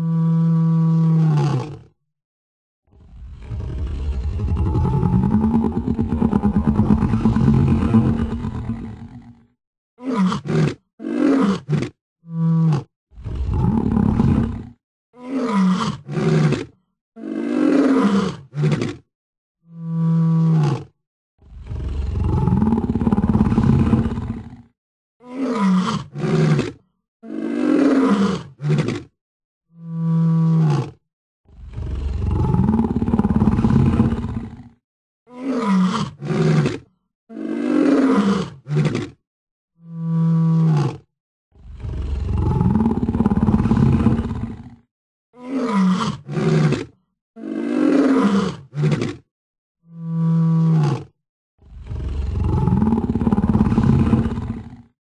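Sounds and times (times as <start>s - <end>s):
animal roars and calls: 0.0s - 2.0s, 2.9s - 39.2s, 39.8s - 49.2s, 49.8s - 55.0s.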